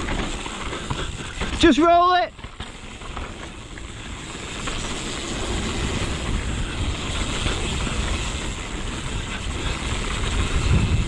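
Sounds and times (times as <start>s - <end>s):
bike tyres rumbling over dirt: 0.0s - 11.0s
rushing wind noise: 0.0s - 11.0s.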